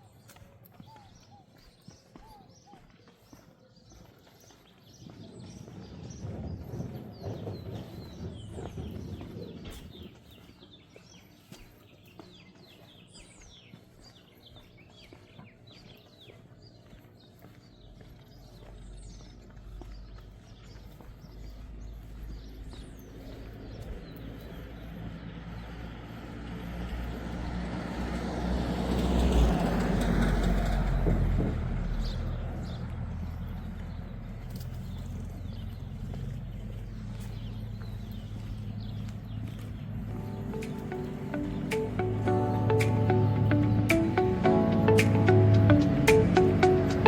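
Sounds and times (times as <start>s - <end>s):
birds chirping: 0.0s - 47.0s
motor vehicle rumbling: 4.4s - 11.2s, 12.7s - 47.0s.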